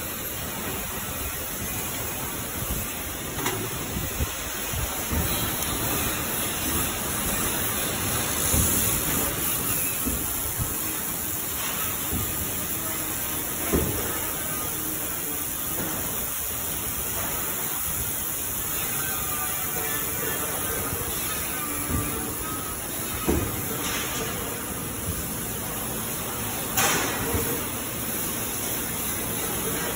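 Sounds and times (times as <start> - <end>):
laser welder hissing: 0.1 - 29.9.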